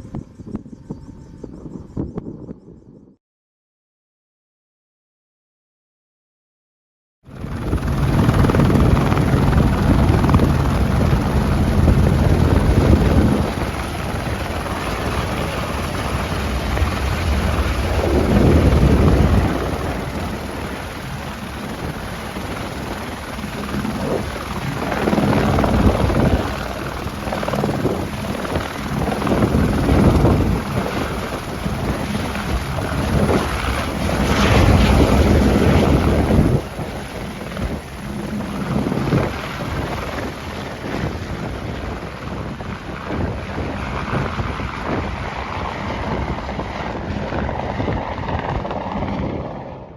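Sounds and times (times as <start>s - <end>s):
wind buffeting microphone: 0.0s - 3.2s, 7.3s - 49.8s
helicopter running: 7.3s - 49.9s.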